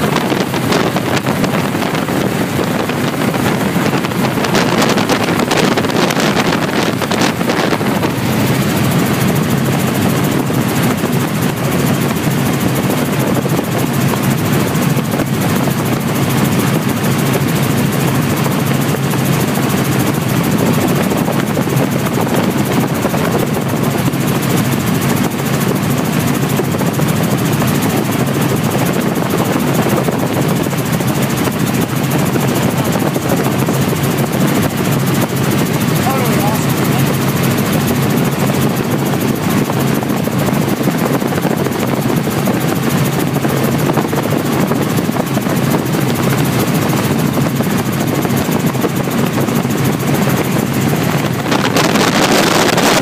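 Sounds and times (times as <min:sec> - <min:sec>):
helicopter rotor and engine: 0:00.0 - 0:53.0
wind buffeting microphone: 0:00.0 - 0:53.0.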